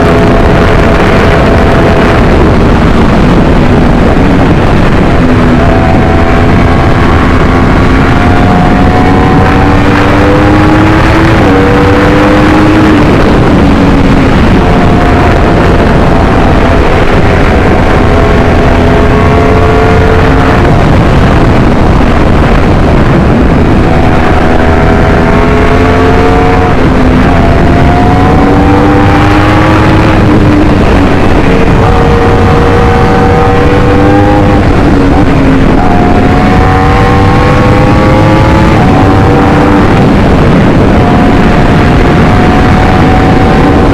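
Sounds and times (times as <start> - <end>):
loud rushing noise: 0.0 - 43.9
motorcycle engine running: 0.0 - 43.9.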